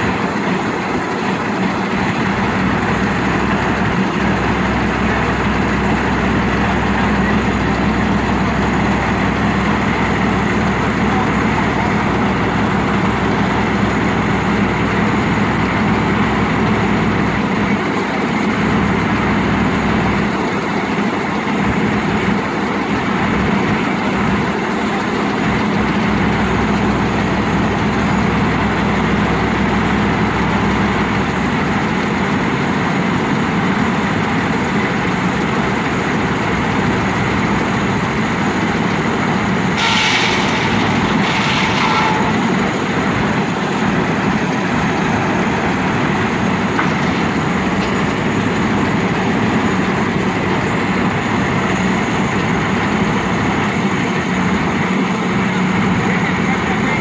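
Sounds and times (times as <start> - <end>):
sawmill engine idling: 0.0 - 57.0.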